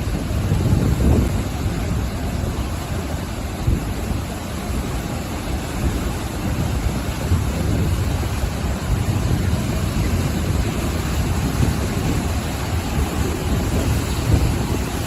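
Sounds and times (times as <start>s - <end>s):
ocean surf washing ashore: 0.0s - 15.0s.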